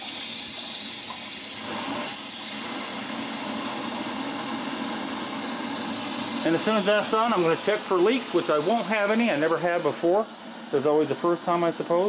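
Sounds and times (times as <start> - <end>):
water rushing into tank: 0.0 - 12.0.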